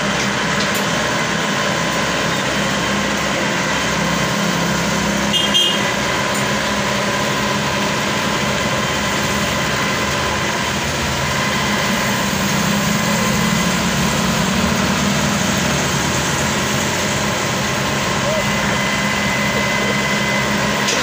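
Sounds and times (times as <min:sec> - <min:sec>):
combine harvester engine running: 0:00.0 - 0:21.0.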